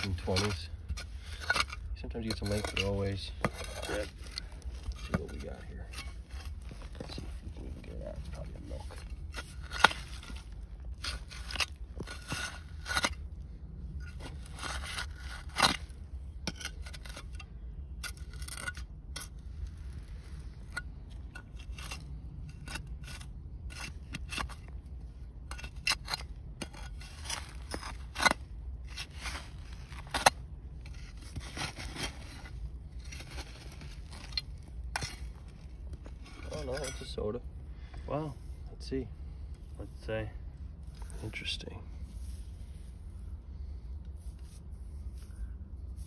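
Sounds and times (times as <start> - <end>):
tool scraping through dirt: 0.0 - 37.4, 38.1 - 46.0.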